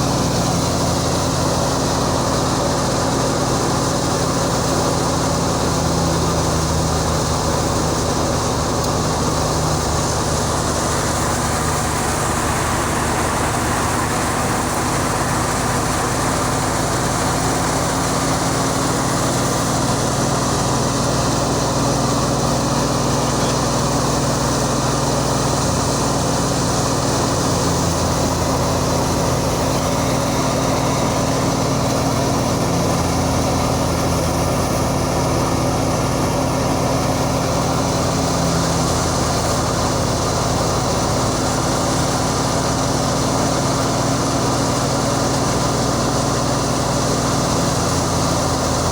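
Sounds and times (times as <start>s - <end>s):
harvesting machine engine droning: 0.0s - 48.9s
working machinery noise: 0.0s - 48.9s.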